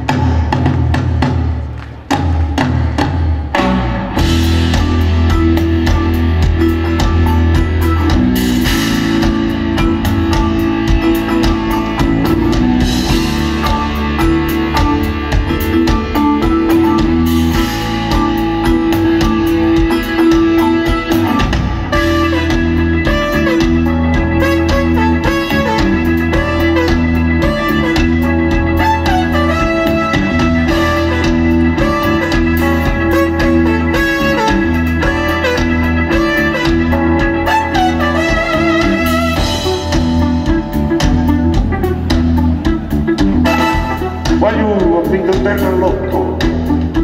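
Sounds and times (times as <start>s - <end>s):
live band music: 0.0s - 47.0s.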